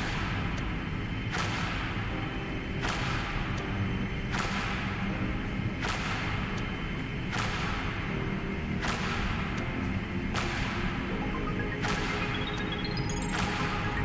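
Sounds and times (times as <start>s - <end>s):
low sustained notes: 0.0s - 14.0s.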